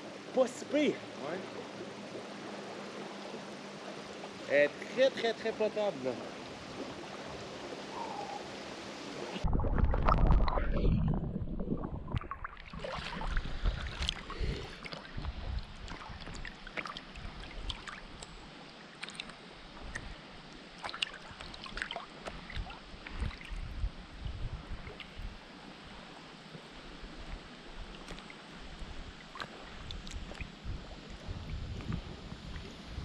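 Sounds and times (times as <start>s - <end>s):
lake water splashing and lapping: 0.0s - 23.8s, 24.5s - 33.0s.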